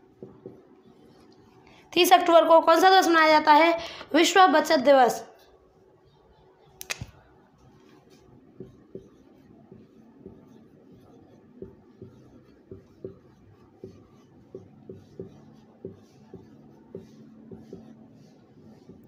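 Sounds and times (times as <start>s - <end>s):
marker pen writing on whiteboard: 0.0s - 3.1s, 5.4s - 19.0s.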